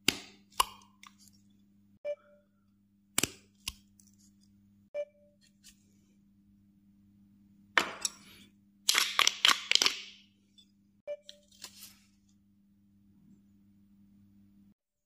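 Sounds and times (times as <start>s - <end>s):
faint electrical hum: 0.3s - 14.8s.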